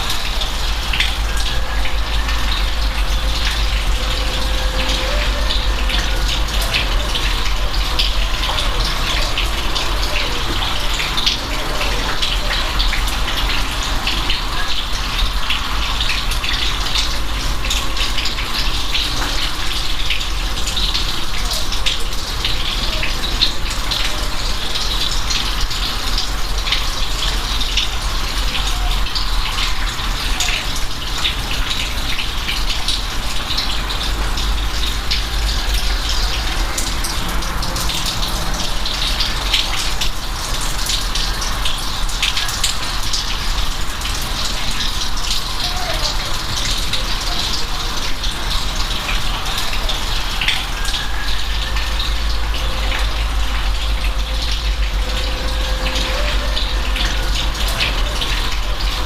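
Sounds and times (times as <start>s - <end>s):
rain drops splashing: 0.0s - 59.0s
steady rain rumble: 0.0s - 59.0s.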